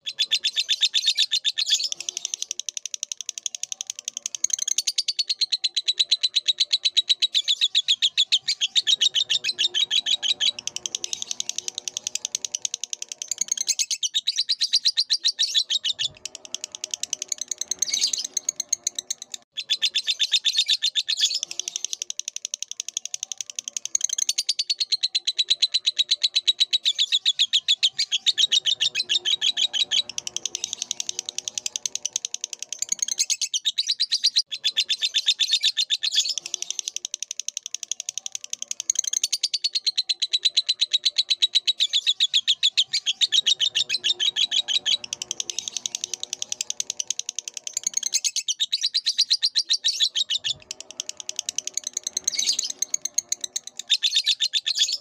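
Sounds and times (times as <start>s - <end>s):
lovebird chattering: 0.0s - 55.0s.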